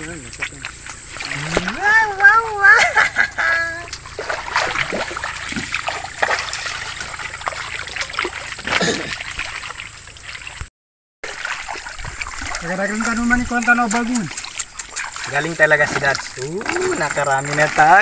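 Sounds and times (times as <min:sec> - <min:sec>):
hands splashing in muddy water: 0:00.0 - 0:18.0
water sloshing and trickling: 0:00.0 - 0:18.0.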